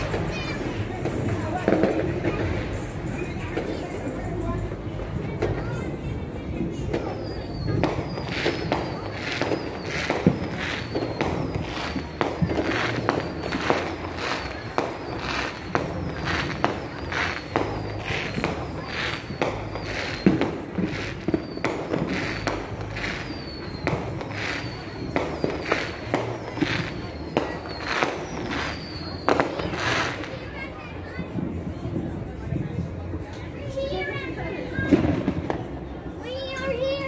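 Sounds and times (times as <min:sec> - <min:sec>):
background music: 0:00.0 - 0:37.0
fireworks popping and banging: 0:00.0 - 0:37.0.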